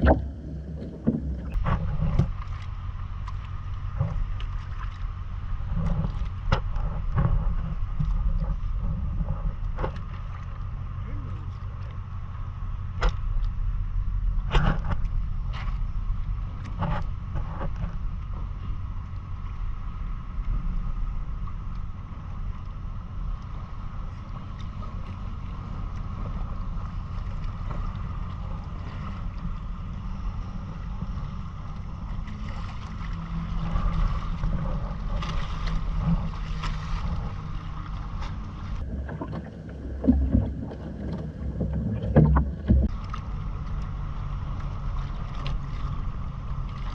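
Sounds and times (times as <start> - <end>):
faint steady hum: 0.0 - 46.9
water noise around hull: 0.0 - 46.9
wind rumbling on microphone: 0.0 - 46.9.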